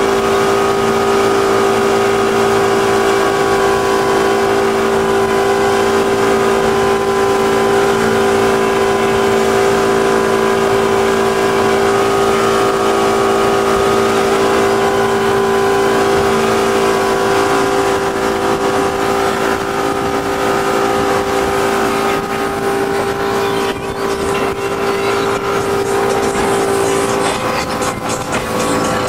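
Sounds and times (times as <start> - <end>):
outboard motor drone: 0.0 - 29.0
rushing water: 0.0 - 29.0
wind: 0.0 - 29.0.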